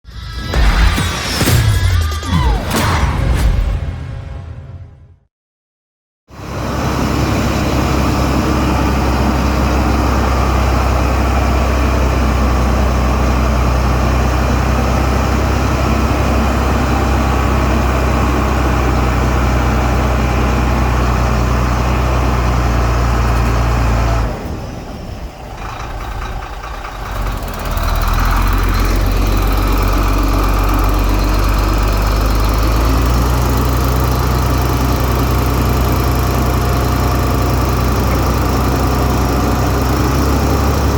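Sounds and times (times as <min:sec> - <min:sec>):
heavy diesel engine running: 0:06.3 - 0:40.9.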